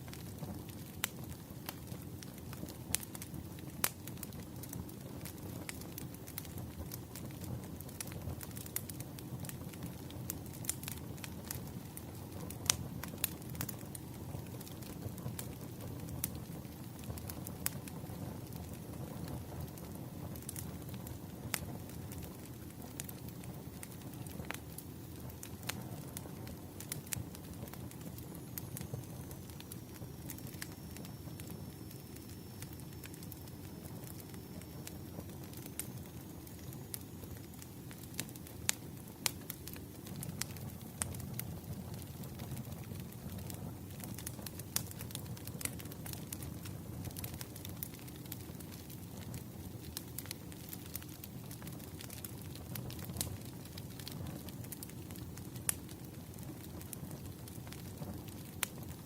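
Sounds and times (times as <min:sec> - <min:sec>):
firewood crackles and pops: 0:00.0 - 0:59.0
low rumble of flames: 0:00.0 - 0:59.0.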